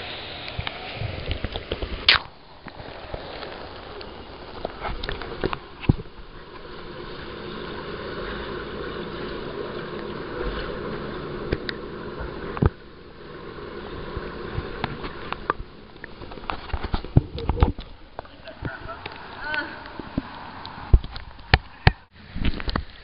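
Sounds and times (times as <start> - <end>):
muffled underwater rushing: 0.0 - 23.0.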